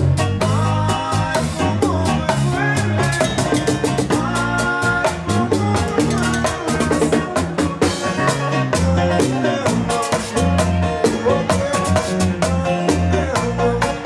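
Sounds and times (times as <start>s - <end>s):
drum kit beat: 0.0s - 14.0s
live band music: 0.0s - 14.0s.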